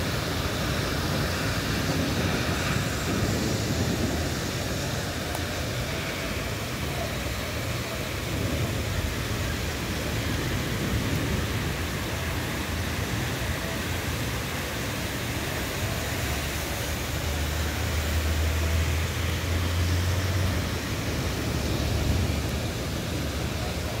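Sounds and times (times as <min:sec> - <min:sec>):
strong wind: 0:00.0 - 0:17.4, 0:18.9 - 0:24.0
heavy rain hissing: 0:00.0 - 0:24.0.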